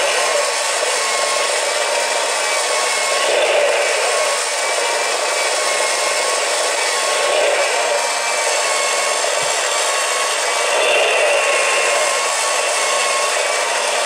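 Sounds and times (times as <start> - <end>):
faint electric motor hum: 0.0 - 14.0
model engine mechanical whir: 0.0 - 14.0.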